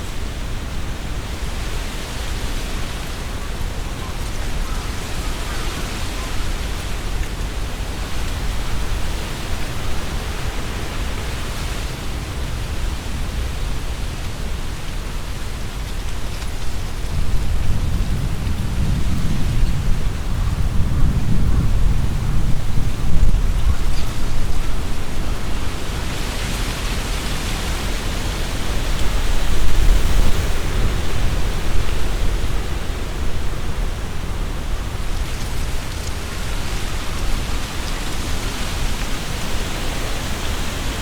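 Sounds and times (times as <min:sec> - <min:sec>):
leaves rustling: 0:00.0 - 0:41.0
wind blowing through trees: 0:00.0 - 0:41.0
wind rumble on microphone: 0:00.0 - 0:41.0.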